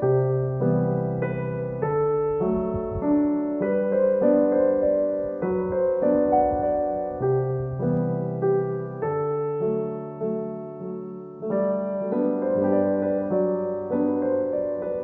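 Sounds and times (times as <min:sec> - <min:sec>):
calm piano piece: 0:00.0 - 0:15.0.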